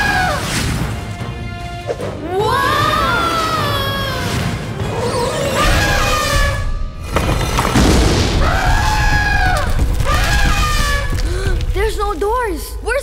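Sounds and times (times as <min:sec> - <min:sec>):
cartoon background music: 0:00.0 - 0:11.1.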